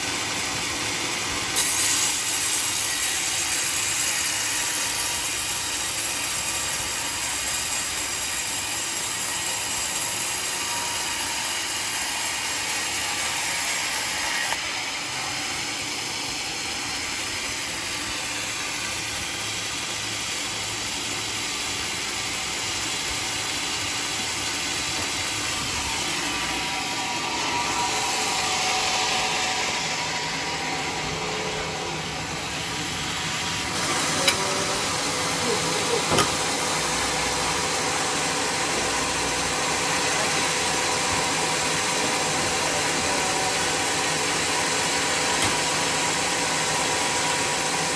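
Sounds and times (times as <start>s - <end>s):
band saw cutting log: 0.0s - 47.9s.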